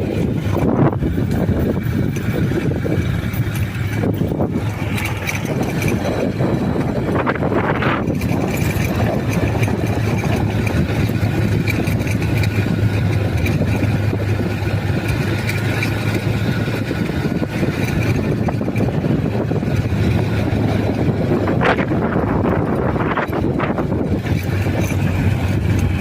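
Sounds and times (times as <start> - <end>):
road noise: 0.0 - 26.0
vehicle engine humming: 0.0 - 26.0.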